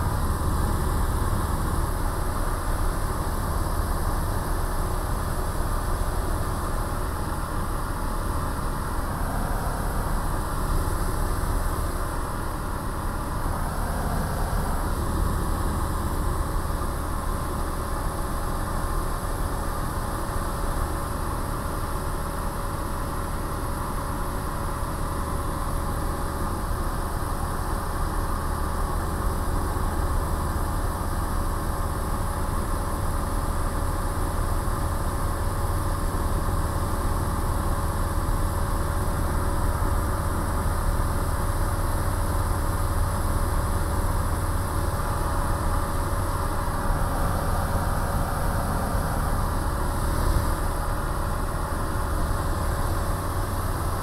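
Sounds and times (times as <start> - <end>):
light aircraft engine hum: 0.0 - 54.0.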